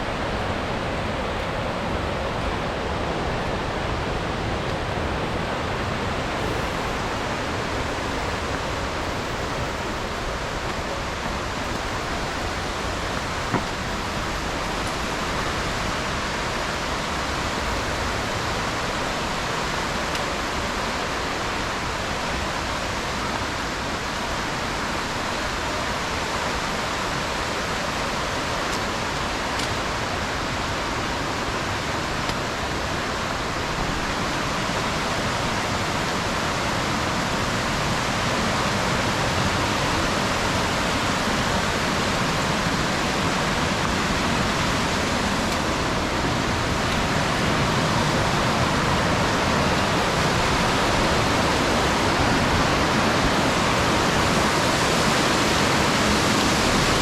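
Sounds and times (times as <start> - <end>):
creek and waterfall rushing: 0.0 - 57.0.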